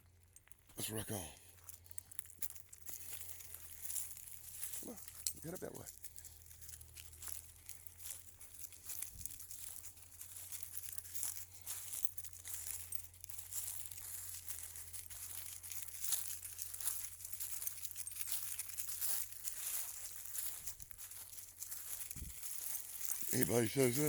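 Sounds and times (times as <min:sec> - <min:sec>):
footsteps through dry leaves: 0:01.4 - 0:24.0.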